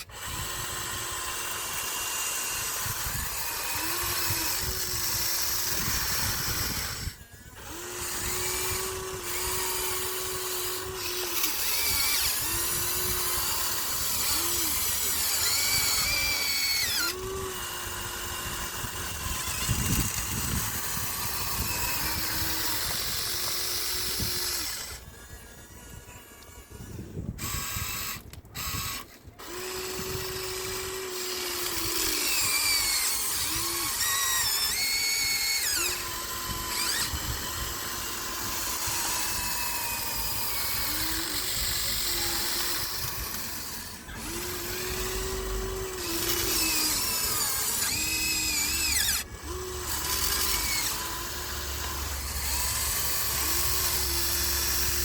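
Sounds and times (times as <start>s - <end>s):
toy excavator motors whining: 0.0s - 55.0s.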